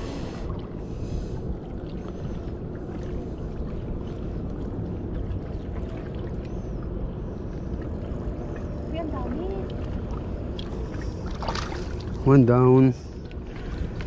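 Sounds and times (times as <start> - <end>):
seawater lapping against rocks: 0.0 - 14.0
wind rumble on microphone: 0.0 - 14.0.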